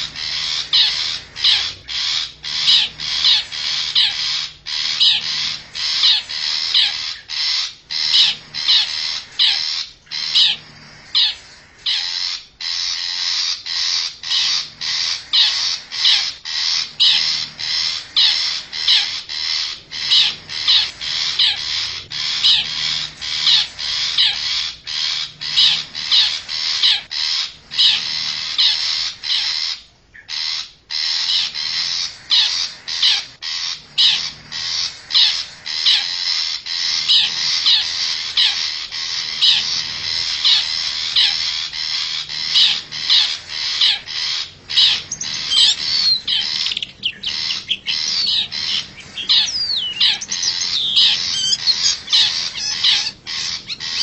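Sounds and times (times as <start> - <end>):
bird harsh scolding calls: 0.0 - 54.0.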